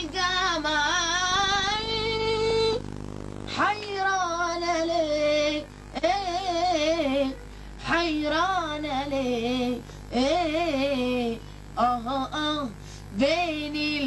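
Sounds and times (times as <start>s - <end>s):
boy singing wordless phrases: 0.0s - 2.8s, 3.5s - 14.0s.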